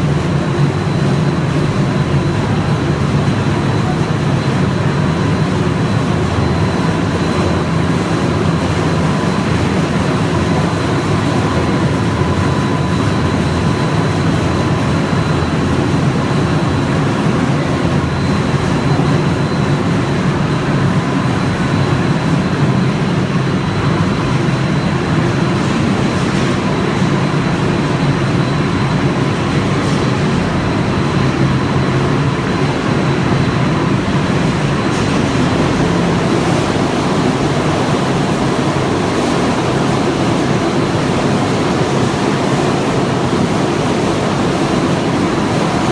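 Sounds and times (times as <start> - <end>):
production line machinery rumbling: 0.0 - 45.9.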